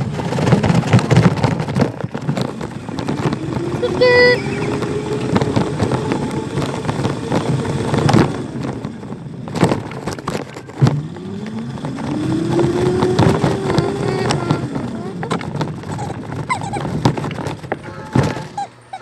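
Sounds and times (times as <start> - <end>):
dirt bike motor whining: 0.0 - 19.0.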